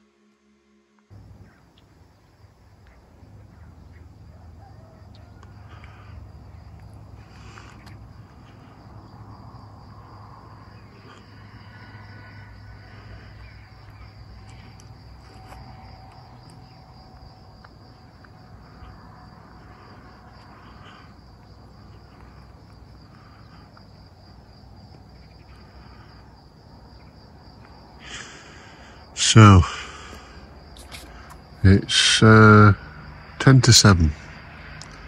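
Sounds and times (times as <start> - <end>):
crickets chirping: 0.2 - 35.0.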